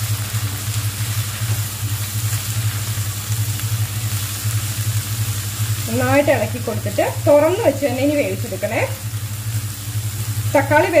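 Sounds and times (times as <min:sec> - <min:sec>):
cooktop pulsing low hum: 0:00.0 - 0:11.0
food sizzling in a pan: 0:00.0 - 0:11.0.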